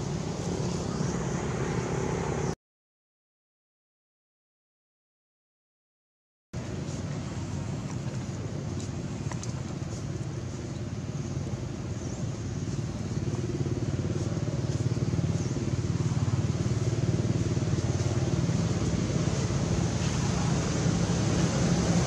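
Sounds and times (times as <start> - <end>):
low engine drone: 0.0 - 2.6, 6.6 - 22.0.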